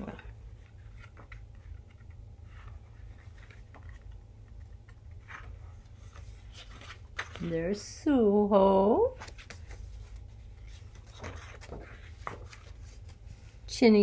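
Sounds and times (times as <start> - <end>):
photo album pages turning: 0.0 - 7.9, 9.1 - 14.0.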